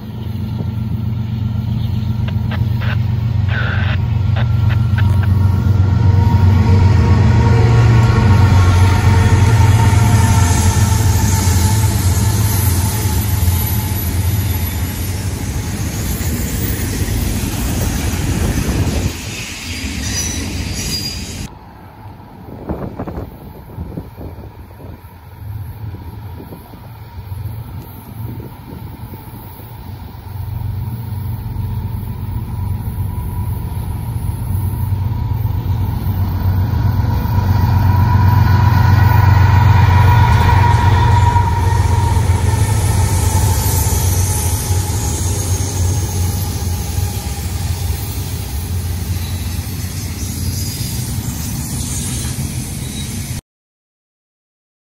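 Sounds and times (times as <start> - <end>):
train wheels rolling: 0.0 - 21.6, 22.6 - 53.4
diesel locomotive engine hum: 0.0 - 53.4.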